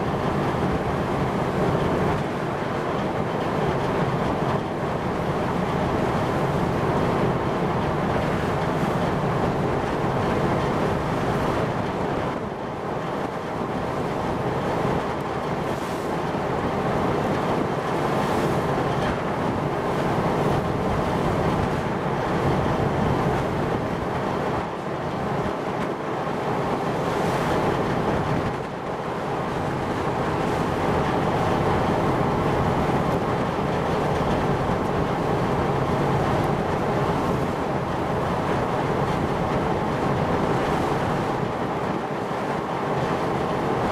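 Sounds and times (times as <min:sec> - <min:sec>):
sea water: 0:00.0 - 0:43.9.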